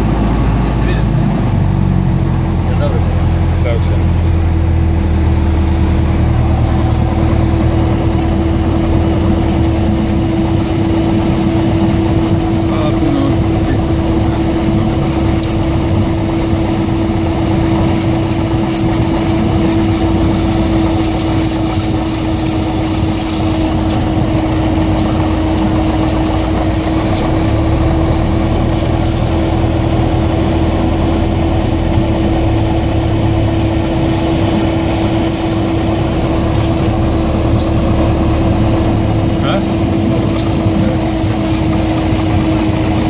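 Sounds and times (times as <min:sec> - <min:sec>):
aircraft engine and propeller drone: 0:00.0 - 0:43.0.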